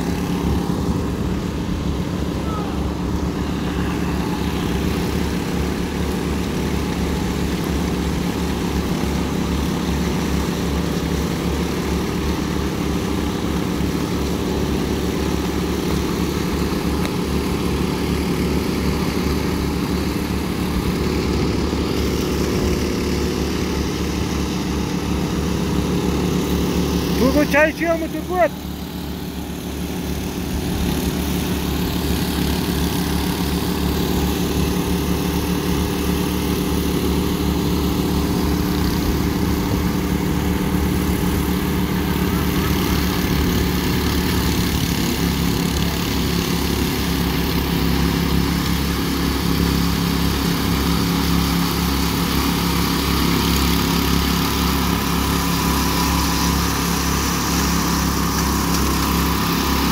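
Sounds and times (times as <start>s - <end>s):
power trowel engines running: 0.0s - 59.9s.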